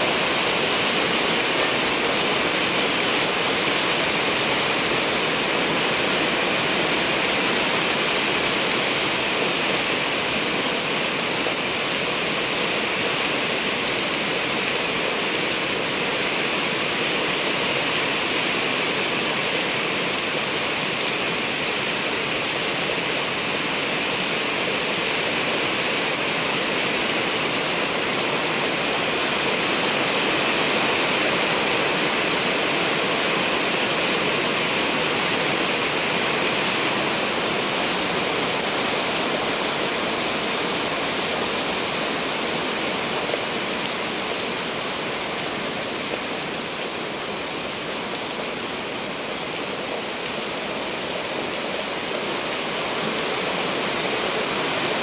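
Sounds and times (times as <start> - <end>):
rain on wet pavement: 0.0 - 55.0.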